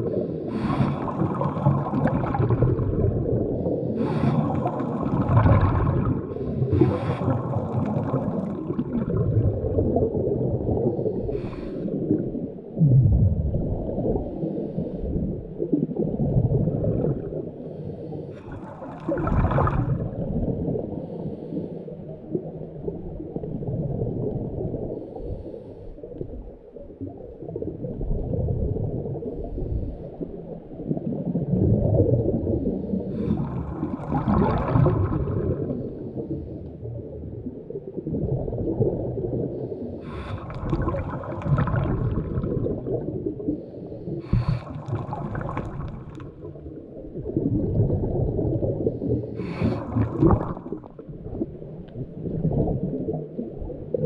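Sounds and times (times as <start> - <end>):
bubbling rushes: 0.0 - 21.1, 22.1 - 25.2, 26.0 - 54.0
muffled underwater water movement: 0.0 - 54.0.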